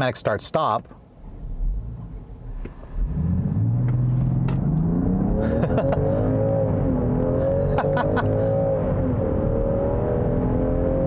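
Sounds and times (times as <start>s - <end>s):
car engine revving: 1.2s - 11.0s.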